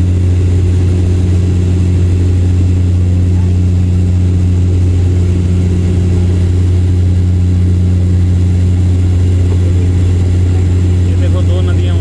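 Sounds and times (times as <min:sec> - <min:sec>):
airliner engines droning in cabin: 0:00.0 - 0:12.0.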